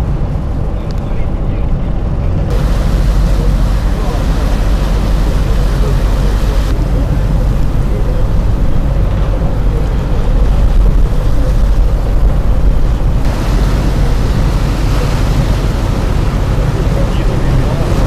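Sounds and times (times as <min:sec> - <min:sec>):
boat engine rumble: 0:00.0 - 0:18.0
wind buffeting microphone: 0:00.0 - 0:18.0
water rushing past hull: 0:02.0 - 0:18.0.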